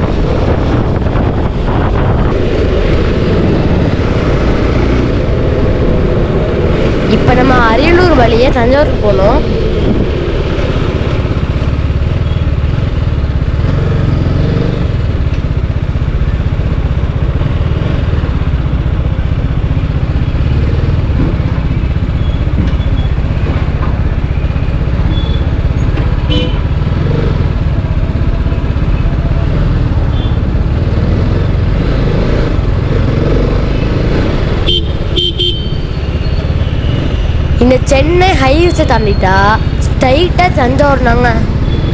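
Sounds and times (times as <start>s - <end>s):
motorcycle engine rumble: 0.0s - 41.9s
road noise: 0.0s - 41.9s.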